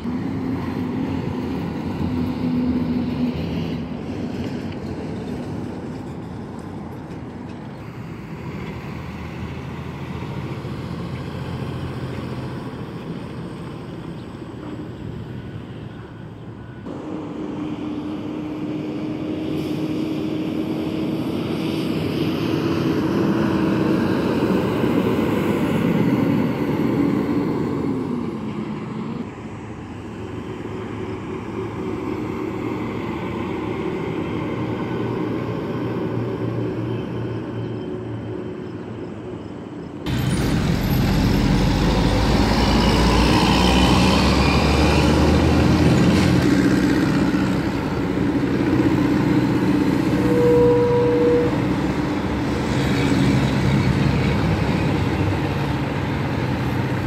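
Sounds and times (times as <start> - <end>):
truck engines running: 0.0 - 57.0.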